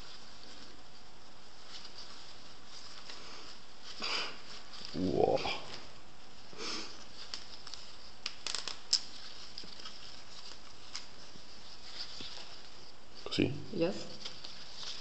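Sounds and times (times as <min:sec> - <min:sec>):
ribbon rustling: 0:00.0 - 0:13.2, 0:14.0 - 0:15.0.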